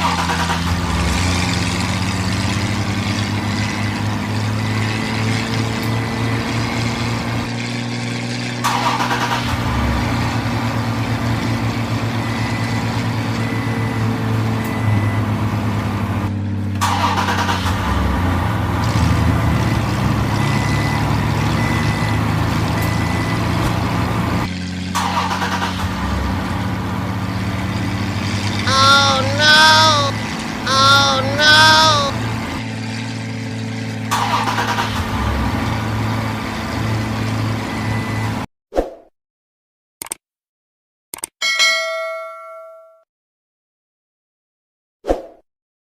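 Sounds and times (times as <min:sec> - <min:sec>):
truck engine running: 0:00.0 - 0:38.4.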